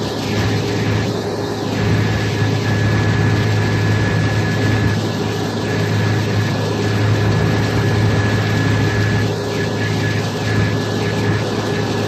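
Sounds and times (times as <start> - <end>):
boat engines droning: 0.0 - 12.0
thin steady whine: 0.0 - 12.0.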